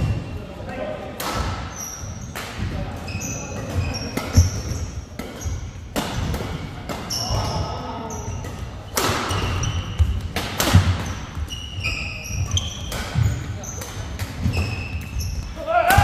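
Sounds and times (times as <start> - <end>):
sneakers squeaking: 0.0 - 0.5, 1.2 - 16.0
racket hitting shuttlecock: 1.2 - 16.0.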